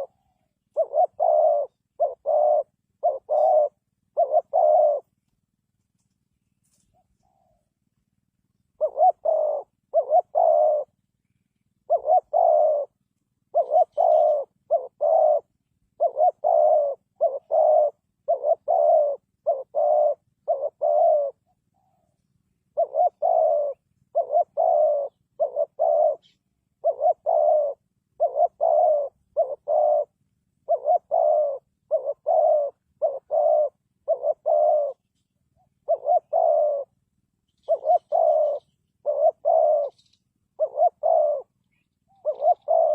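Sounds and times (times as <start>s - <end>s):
dove cooing: 0.0s - 5.2s, 6.7s - 7.9s, 8.7s - 11.0s, 11.8s - 42.9s.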